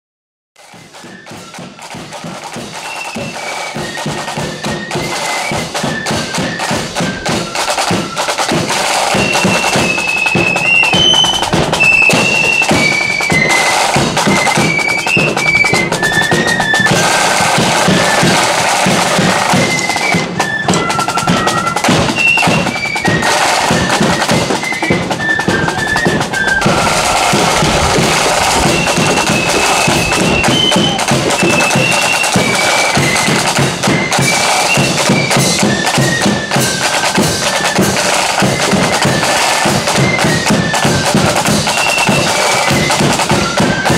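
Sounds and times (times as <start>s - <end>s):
flutes playing a march melody: 0.6s - 43.9s
snare and bass drums: 0.6s - 43.9s.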